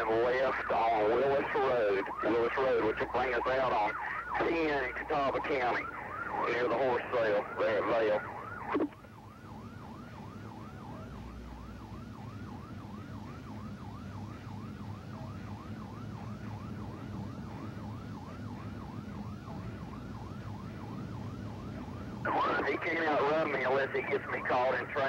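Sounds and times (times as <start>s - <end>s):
engine and road noise: 0.0s - 25.0s
police siren yelping: 0.0s - 25.0s.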